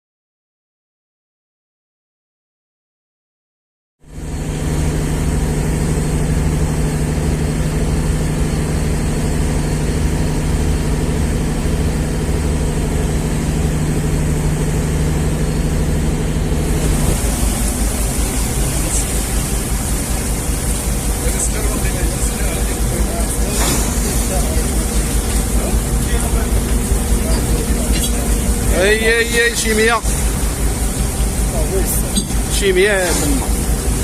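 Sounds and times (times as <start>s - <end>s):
boat engine running: 4.1s - 34.0s.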